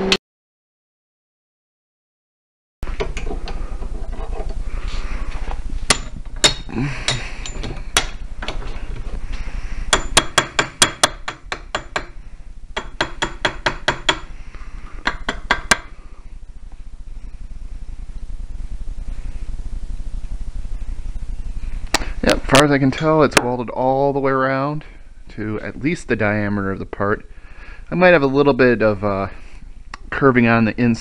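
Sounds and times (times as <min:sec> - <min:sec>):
steady low hum: 0:02.8 - 0:31.0.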